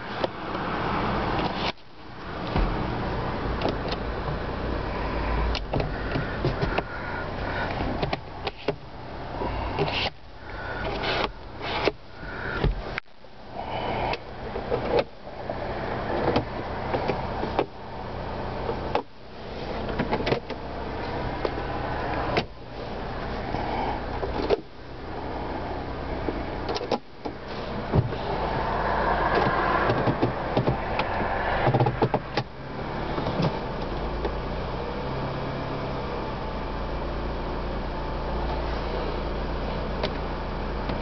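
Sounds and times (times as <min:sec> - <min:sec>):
car engine idling hum: 0:00.0 - 0:41.0.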